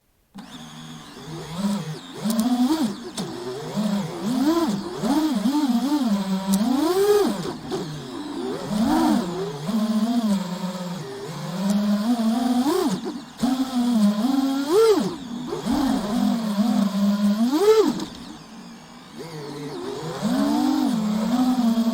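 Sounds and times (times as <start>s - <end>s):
drone motors whining: 0.4s - 21.9s.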